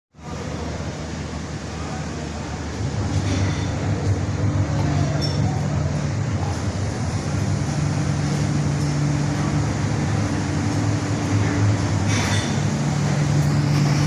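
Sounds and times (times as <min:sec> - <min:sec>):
low machine hum: 0:00.2 - 0:14.0
noisy background din: 0:00.2 - 0:14.0.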